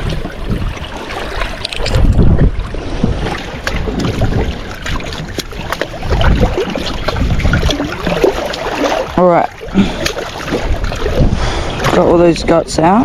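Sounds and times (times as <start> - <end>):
sea waves washing on rocks: 0.0 - 13.0
wind buffeting microphone: 0.0 - 13.0.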